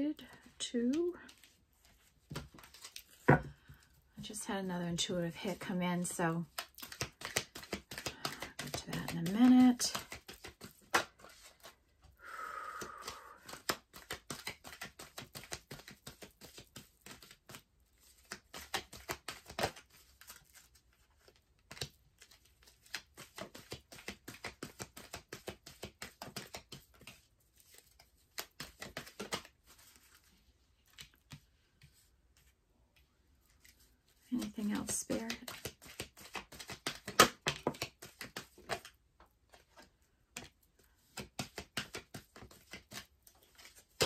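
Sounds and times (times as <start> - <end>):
cards shuffled by hand: 0.3 - 3.8, 5.3 - 12.0, 12.8 - 32.5, 33.5 - 44.0.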